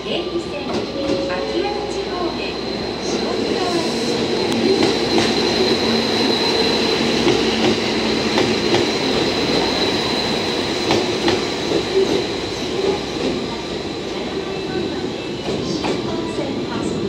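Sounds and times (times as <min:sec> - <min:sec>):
railcar running rumble: 0:00.0 - 0:17.0.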